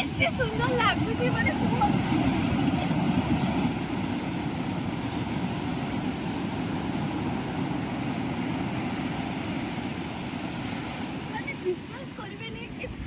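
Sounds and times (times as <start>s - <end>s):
wind and sea rushing: 0.0s - 13.0s
wind rumbling on microphone: 0.0s - 13.0s.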